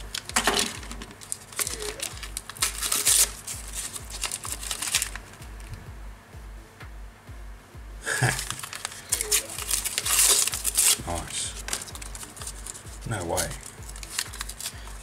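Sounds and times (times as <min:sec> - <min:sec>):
paper wrapping crinkling and tearing: 0:00.0 - 0:05.6, 0:08.1 - 0:15.0.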